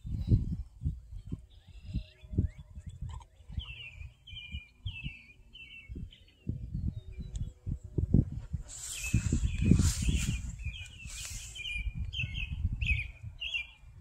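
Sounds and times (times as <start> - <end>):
bird chirping: 1.1 - 7.6, 8.7 - 14.0.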